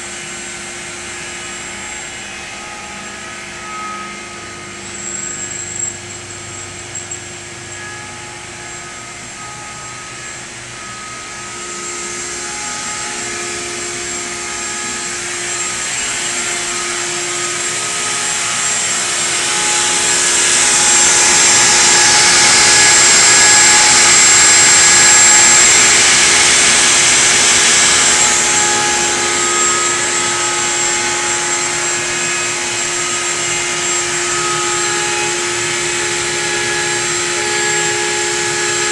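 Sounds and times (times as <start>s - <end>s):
motor whine: 0.0s - 38.9s.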